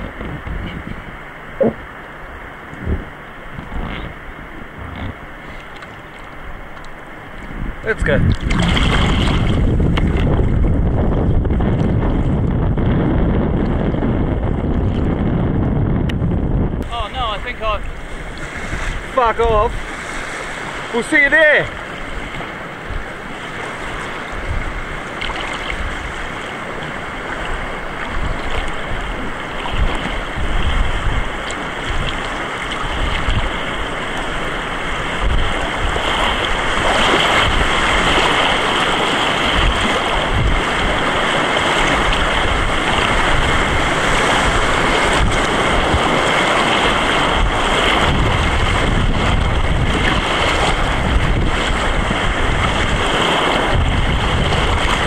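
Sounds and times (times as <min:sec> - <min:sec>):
wind buffeting microphone: 0:00.0 - 0:05.4, 0:06.4 - 0:55.0
river water rushing and splashing: 0:00.0 - 0:12.5, 0:16.8 - 0:55.0.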